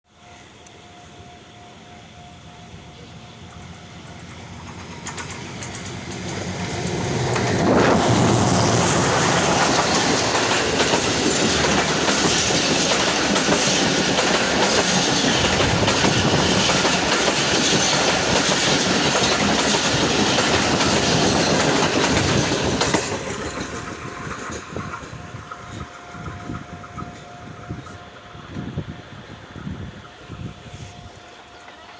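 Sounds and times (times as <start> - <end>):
train passing close by: 0.1 - 31.9.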